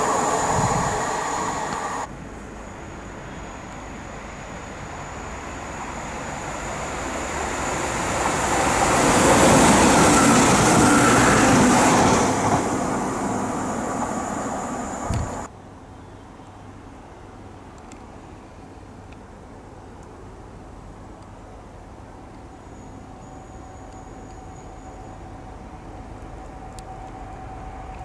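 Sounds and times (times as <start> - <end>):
diesel train passing: 0.0 - 15.5, 20.9 - 28.0.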